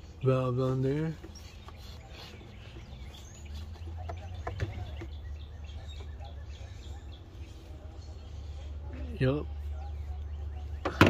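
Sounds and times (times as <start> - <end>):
bird chirps: 0.0 - 11.0
low outdoor rumble: 0.0 - 11.0.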